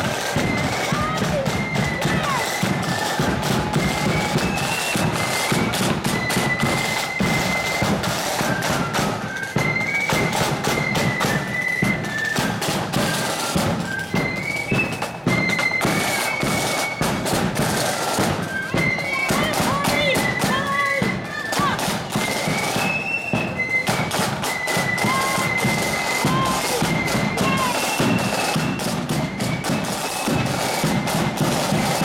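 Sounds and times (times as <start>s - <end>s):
marching band melody: 0.0s - 32.0s
steady drum beat: 0.0s - 32.0s.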